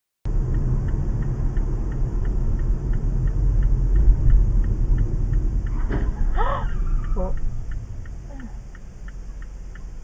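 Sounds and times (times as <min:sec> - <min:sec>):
faint regular ticking: 0:00.3 - 0:05.8, 0:06.4 - 0:10.0
car road and engine rumble: 0:00.3 - 0:10.0.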